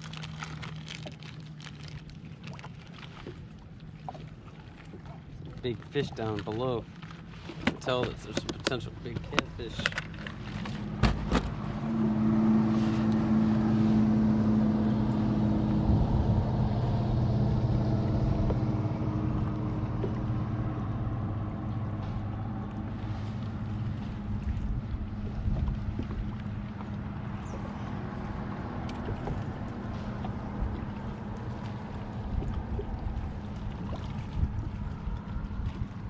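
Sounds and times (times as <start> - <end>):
watercraft engine running: 0.0 - 36.0.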